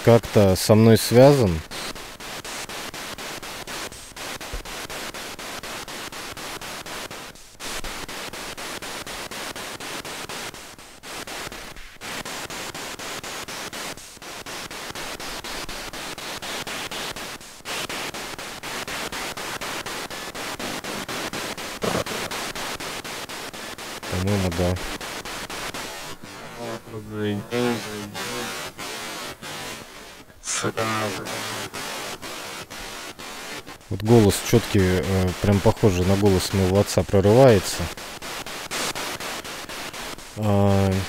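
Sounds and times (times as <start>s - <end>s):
pulsing radio static: 0.0s - 41.0s.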